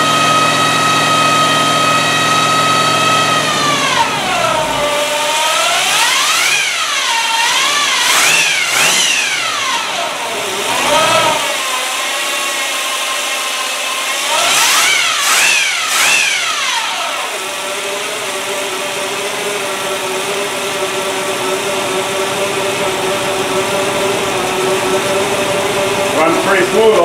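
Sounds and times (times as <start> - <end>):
engine revving then idling: 0.0 - 27.0.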